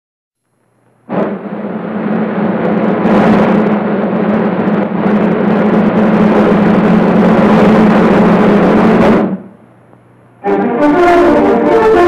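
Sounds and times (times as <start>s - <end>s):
propeller aircraft engines droning: 0.7s - 12.0s.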